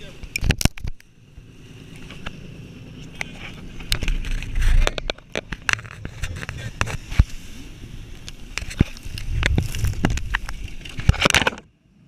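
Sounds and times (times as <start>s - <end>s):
water noise: 0.0s - 11.7s
rumbling wind: 0.0s - 12.0s.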